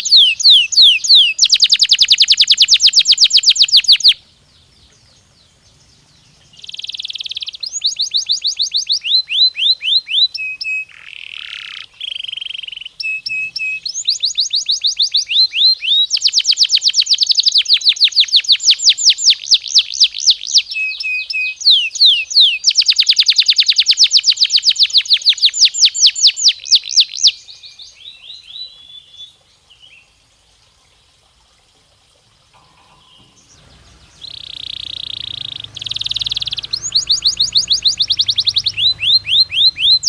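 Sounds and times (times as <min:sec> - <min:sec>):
canary singing: 0:00.0 - 0:27.3, 0:32.6 - 0:40.0.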